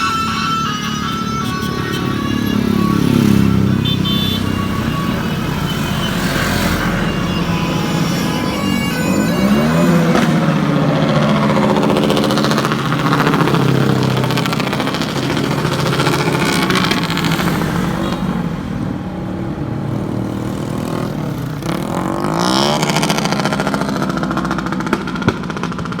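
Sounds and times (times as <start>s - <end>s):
vehicle engines revving: 0.0s - 26.0s.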